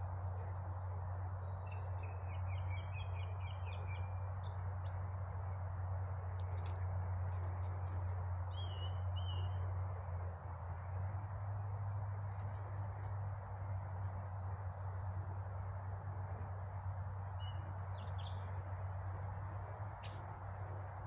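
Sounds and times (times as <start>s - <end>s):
songbirds chirping and whistling: 0.0s - 5.4s, 6.5s - 10.1s, 11.9s - 21.0s.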